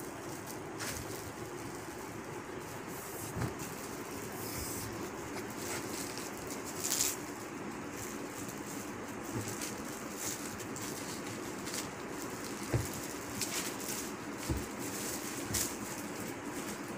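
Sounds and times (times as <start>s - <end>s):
fabric rustling: 0.0s - 16.9s
steady background hum: 0.0s - 16.9s.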